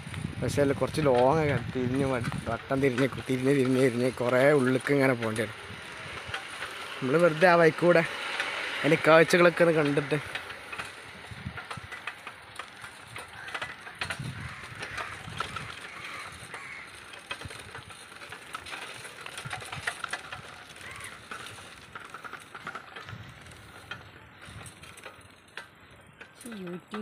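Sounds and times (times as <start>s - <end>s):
bicycle rattles and clicks: 0.0s - 27.0s
bicycle tyre noise: 0.0s - 27.0s.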